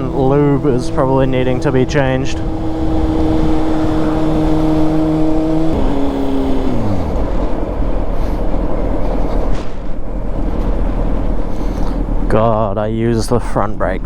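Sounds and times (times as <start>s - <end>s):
motorcycle engine: 0.0s - 12.3s
wind rush: 0.0s - 12.3s.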